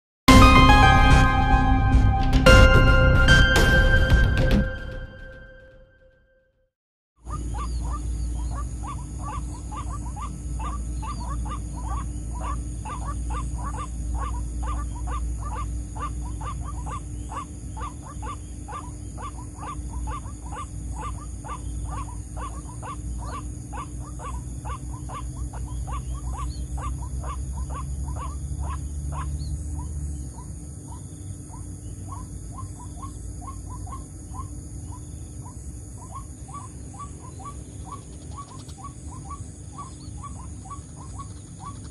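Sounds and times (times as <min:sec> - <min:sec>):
bird croaking calls: 0:07.2 - 0:41.9.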